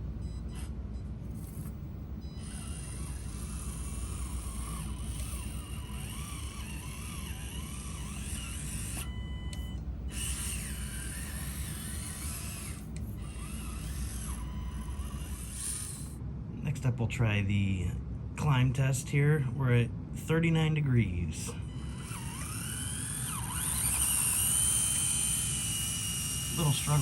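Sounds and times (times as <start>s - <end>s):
small electric motor whining: 0.0s - 16.2s, 21.5s - 27.0s.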